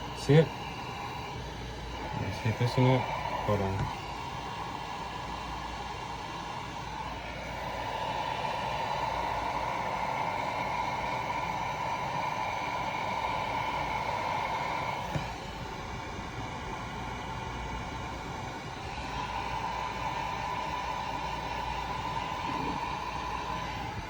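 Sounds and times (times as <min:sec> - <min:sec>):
faint whine: 0:00.0 - 0:24.0
heat gun blowing: 0:00.0 - 0:24.0.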